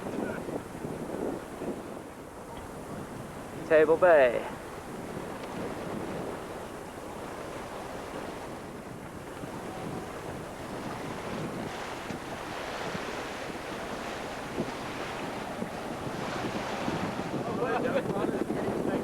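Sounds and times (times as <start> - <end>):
sea water washing past boat: 0.0 - 19.0
wind on microphone: 0.0 - 19.0.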